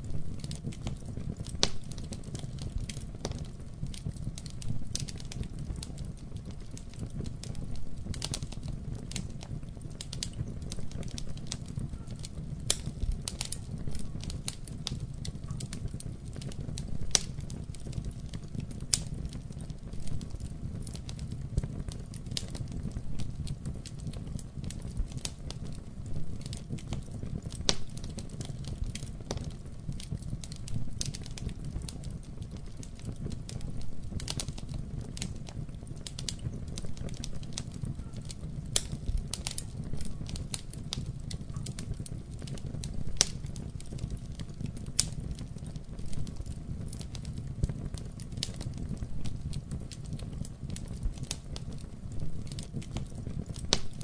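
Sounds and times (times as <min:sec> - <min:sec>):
fire flames rumbling: 0:00.0 - 0:54.0
wood fire crackling and popping: 0:00.0 - 0:54.0.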